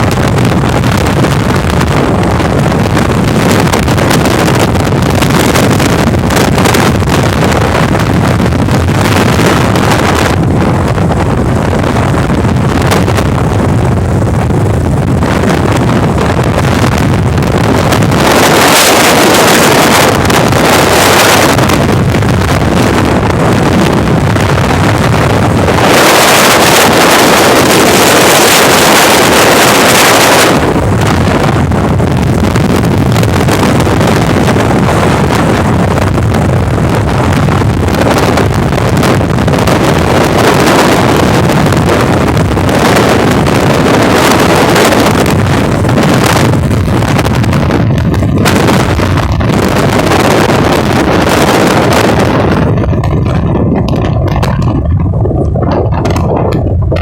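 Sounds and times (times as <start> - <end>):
low rumble: 0.0 - 57.0
wind buffeting microphone: 0.0 - 57.0.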